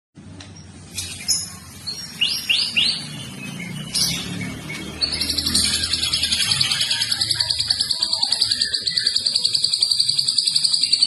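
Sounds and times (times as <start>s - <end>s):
songbird whistling and trilling: 1.0s - 11.0s.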